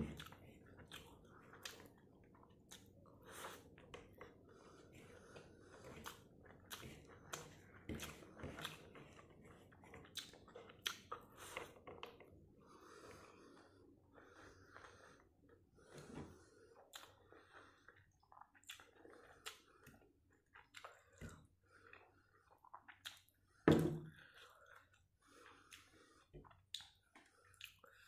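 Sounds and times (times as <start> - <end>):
faint chewing with soft crunches: 0.0 - 28.0.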